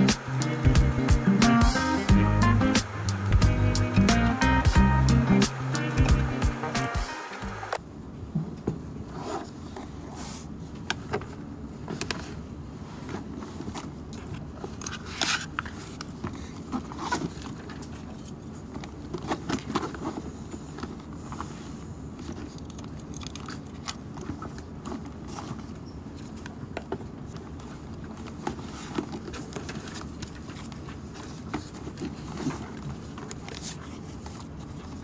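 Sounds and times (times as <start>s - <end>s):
books being handled and packed: 0.0s - 35.0s
low room hum: 0.0s - 35.0s.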